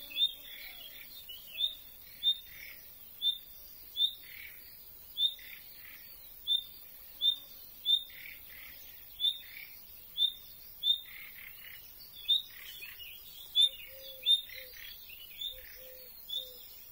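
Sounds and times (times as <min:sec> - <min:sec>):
bird chirping call: 0:00.0 - 0:16.9.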